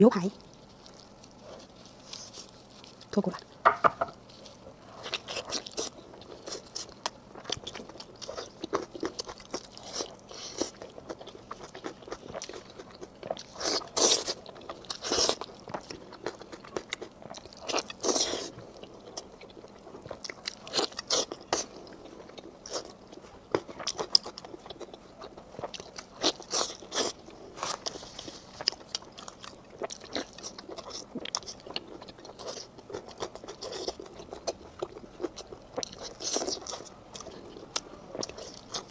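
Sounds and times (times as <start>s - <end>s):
person crunching and chewing: 0.2s - 38.9s.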